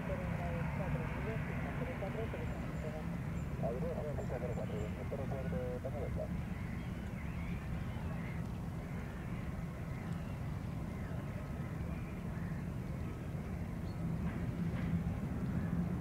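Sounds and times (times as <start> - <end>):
jet engines low rumble: 0.0 - 16.0
faint bird calls: 0.1 - 14.0.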